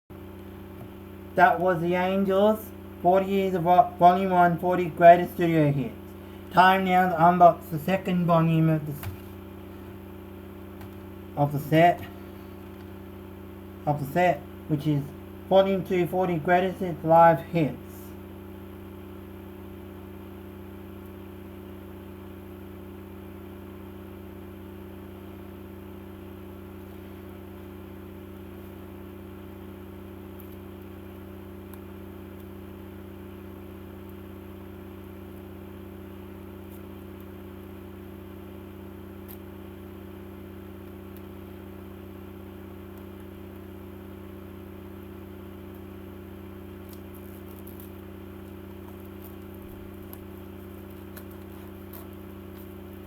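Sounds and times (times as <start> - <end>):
low machine hum: 0.1 - 53.0.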